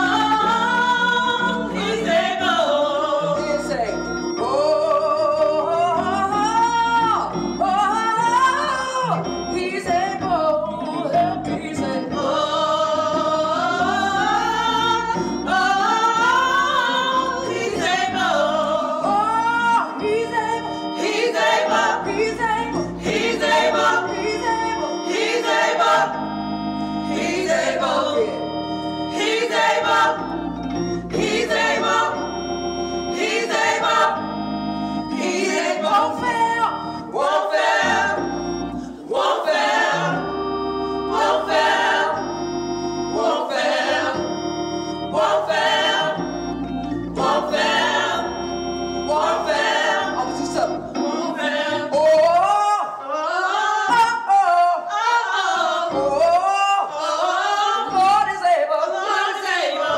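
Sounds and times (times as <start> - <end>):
group singing gospel: 0.0 - 59.9.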